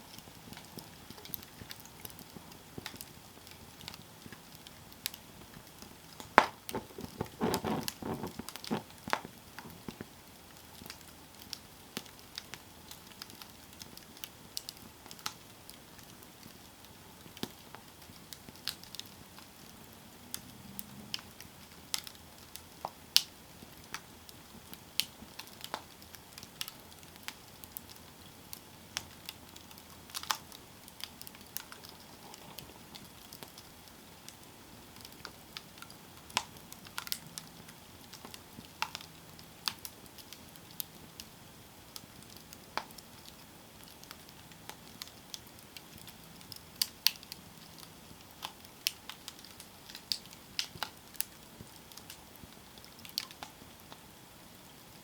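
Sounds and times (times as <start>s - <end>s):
campfire crackling and popping: 0.0s - 55.0s
soft steady fire hiss: 0.0s - 55.0s.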